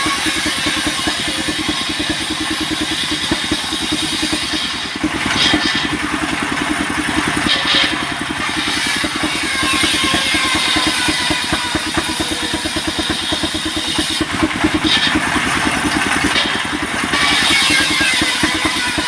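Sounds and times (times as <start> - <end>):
engine running with fast pulse: 0.0 - 19.0.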